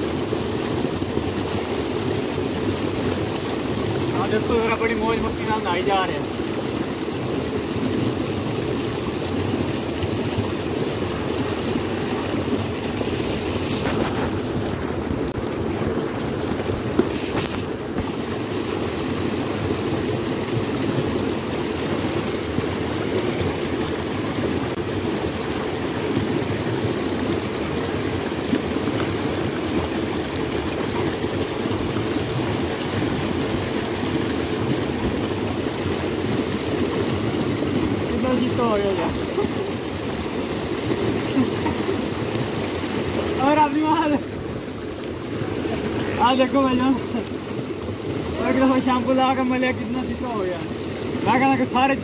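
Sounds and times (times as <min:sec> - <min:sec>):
water running into pond: 0:00.0 - 0:52.0
water splashing: 0:00.0 - 0:52.0.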